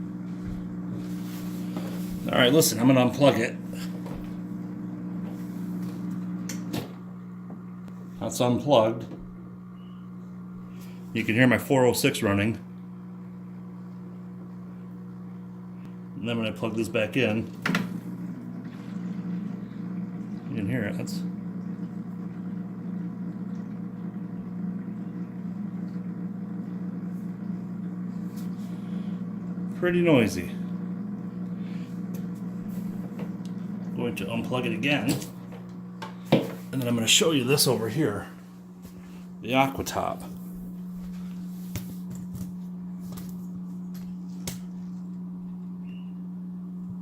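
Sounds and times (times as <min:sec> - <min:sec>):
filter pump motor humming: 0:00.0 - 0:47.0.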